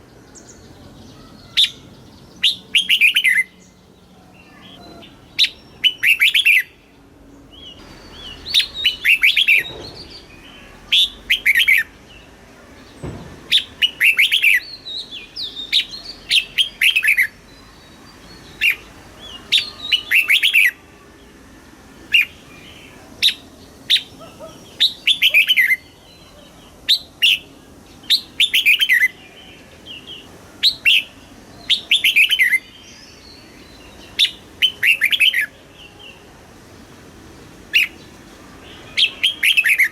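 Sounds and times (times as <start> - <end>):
bulbul chirping song: 0.0 - 20.9, 22.1 - 36.2, 37.7 - 39.9.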